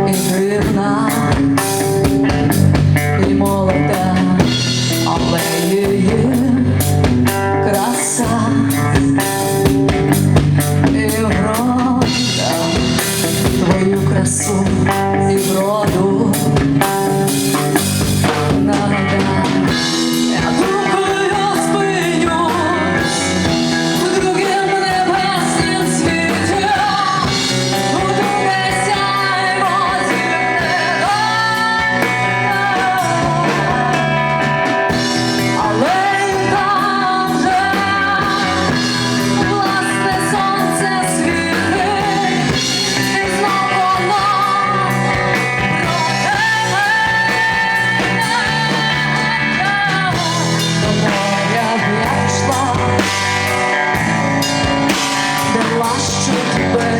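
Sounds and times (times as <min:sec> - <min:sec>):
rock band playing: 0:00.0 - 0:56.9.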